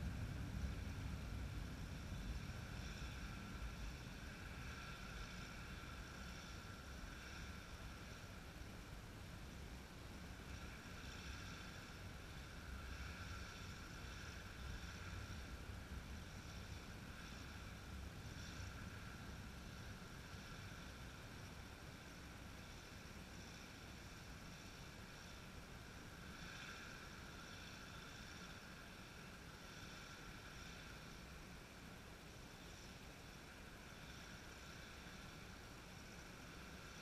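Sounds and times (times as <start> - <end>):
faint low rumble: 0.0 - 37.0
light hum and hiss: 0.0 - 37.0.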